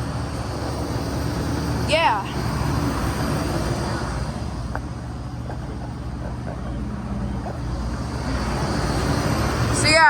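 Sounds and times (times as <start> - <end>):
compressor hum: 0.0 - 10.0
condenser fans whooshing: 0.0 - 10.0.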